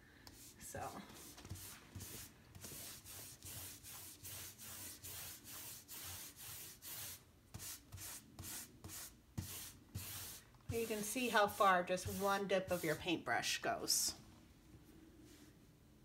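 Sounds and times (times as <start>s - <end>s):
paintbrush swishing on wood: 0.3s - 13.3s.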